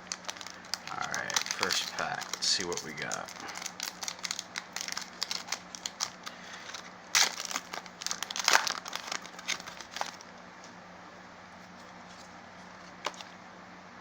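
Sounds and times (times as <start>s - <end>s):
foil wrapper crinkling: 0.0s - 10.4s, 11.8s - 13.4s.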